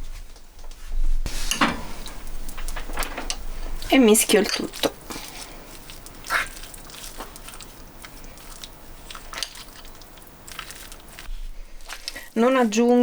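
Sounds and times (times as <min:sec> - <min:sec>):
meat mixture squishing: 0:01.3 - 0:13.0.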